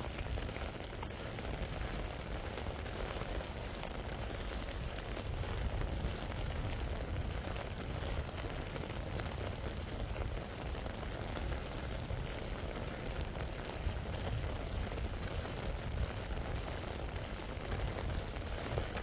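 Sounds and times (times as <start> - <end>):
rain pattering on an umbrella: 0.0 - 19.0.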